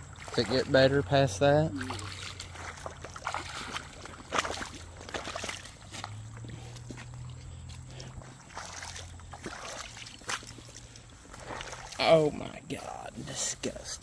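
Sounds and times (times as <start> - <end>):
footsteps wading through water: 0.0 - 13.7
low steady hum: 0.0 - 14.0.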